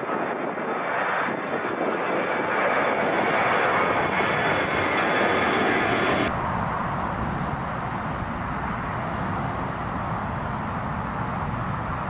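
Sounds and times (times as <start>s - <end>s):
jet airliner climbing: 0.1s - 12.0s.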